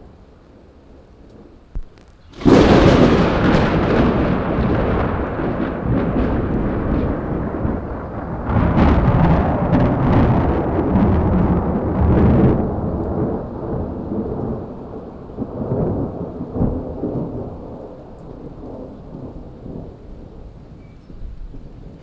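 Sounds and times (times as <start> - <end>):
rolling thunder rumble: 0.0 - 22.0
thunder crack: 1.7 - 20.4.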